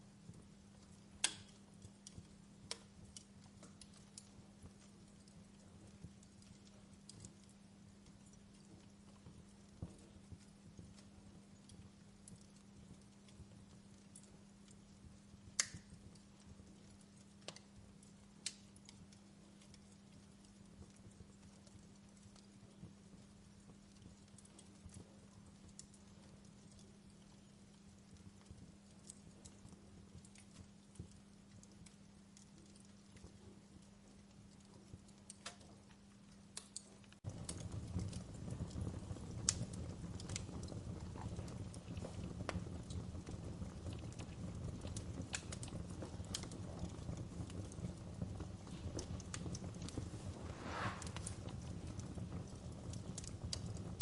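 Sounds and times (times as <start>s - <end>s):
burning logs popping: 0.0s - 54.0s
wood fire crackling: 0.0s - 54.0s.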